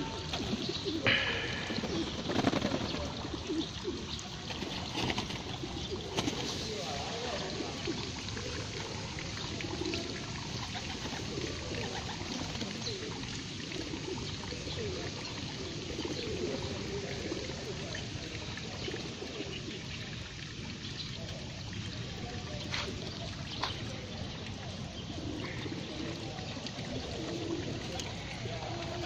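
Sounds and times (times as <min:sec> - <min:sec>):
pigeons cooing: 0:00.0 - 0:29.0
water trickling: 0:00.0 - 0:29.0.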